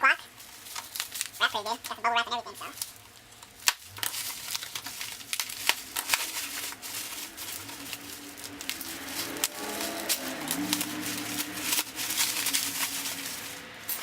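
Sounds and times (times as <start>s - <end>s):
bubble wrap crinkling and crackling: 0.0s - 14.0s.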